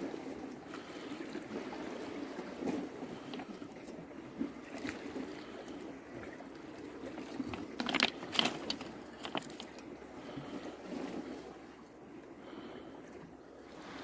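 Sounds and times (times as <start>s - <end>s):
waves on pebble shore: 0.0s - 11.7s.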